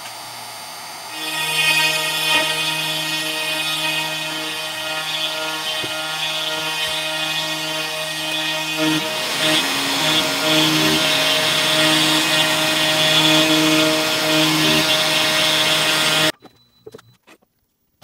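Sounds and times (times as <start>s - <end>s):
router spindle whine cutting wood: 0.0s - 16.3s.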